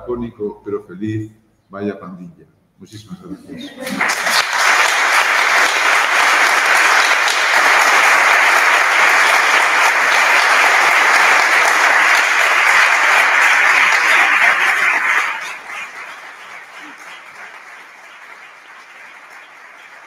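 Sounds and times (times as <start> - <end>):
audience applause: 3.7 - 20.0.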